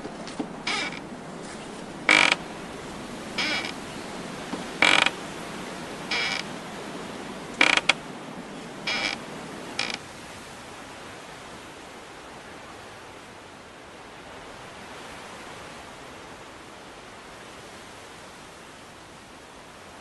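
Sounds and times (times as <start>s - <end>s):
outdoor ambience hiss: 0.0s - 20.0s.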